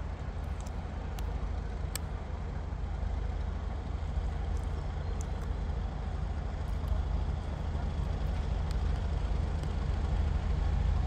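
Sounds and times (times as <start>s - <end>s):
distant diesel locomotive rumble: 0.0s - 11.0s.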